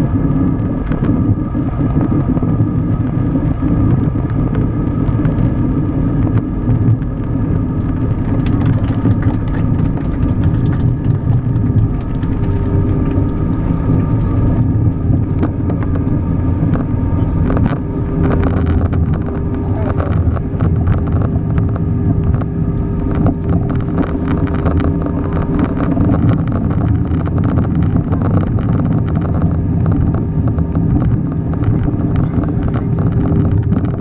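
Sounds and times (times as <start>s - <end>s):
rumble of engines and wheels: 0.0s - 34.0s.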